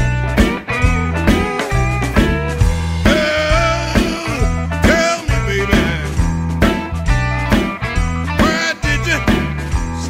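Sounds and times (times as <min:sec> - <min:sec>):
bass guitar riff: 0:00.0 - 0:10.0
drum beat: 0:00.0 - 0:10.0
electric guitar bending notes: 0:00.0 - 0:10.0.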